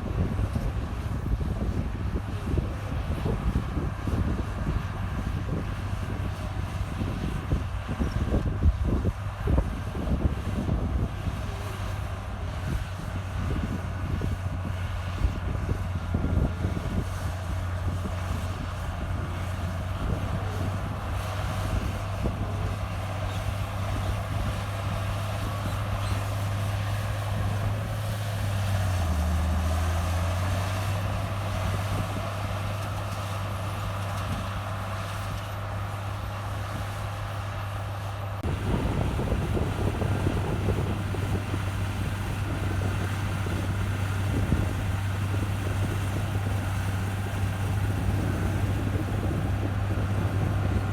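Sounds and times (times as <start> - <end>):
heavy machinery diesel engine humming: 0.0 - 50.9.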